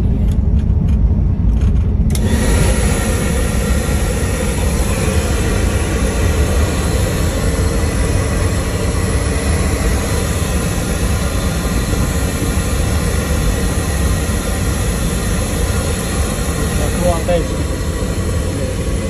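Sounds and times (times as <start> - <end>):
train rumble: 0.0 - 19.0
even hiss: 2.2 - 19.0.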